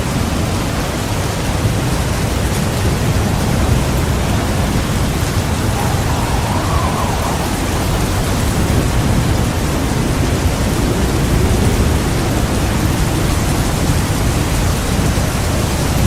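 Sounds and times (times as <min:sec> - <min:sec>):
heavy rain pouring: 0:00.0 - 0:16.0
low thunder rumble: 0:01.2 - 0:16.0.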